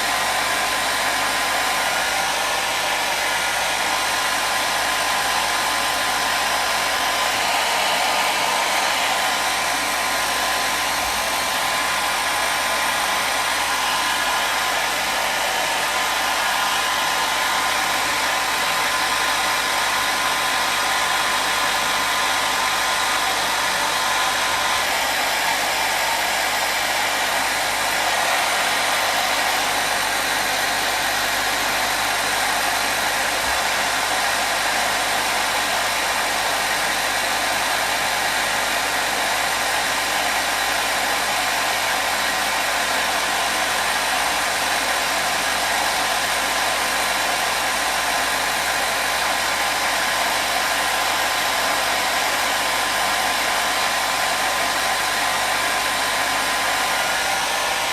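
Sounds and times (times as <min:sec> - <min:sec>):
hair dryer blowing air: 0:00.0 - 0:57.9.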